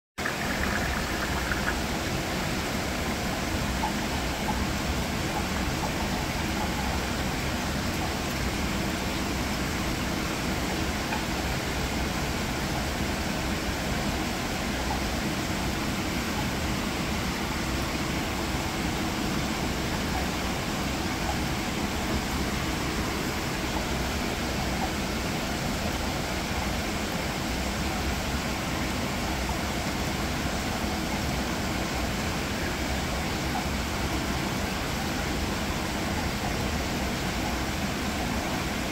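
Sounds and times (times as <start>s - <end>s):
fish tank water pump humming: 0.2s - 38.9s.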